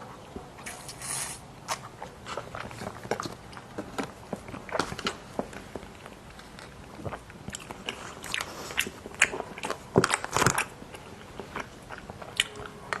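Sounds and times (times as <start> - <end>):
person chewing crunchy sweets: 0.1 - 13.0.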